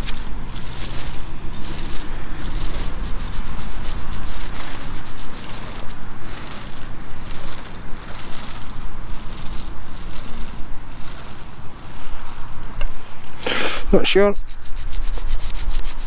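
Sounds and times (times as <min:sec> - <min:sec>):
fingers scraping soil off coin: 0:00.0 - 0:16.0.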